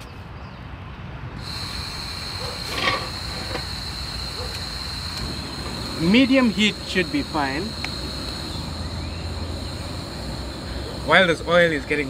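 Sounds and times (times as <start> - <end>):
high whistle: 1.4 - 11.9
gas burner hissing: 1.4 - 12.0.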